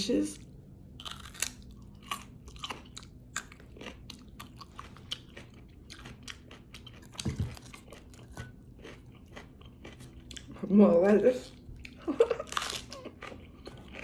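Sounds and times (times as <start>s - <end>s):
person chewing crunchy vegetables: 0.4s - 10.7s, 11.4s - 14.0s.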